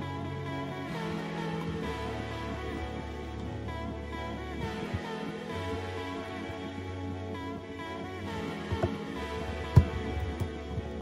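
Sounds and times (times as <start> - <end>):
instrumental music sustained notes: 0.0 - 11.0.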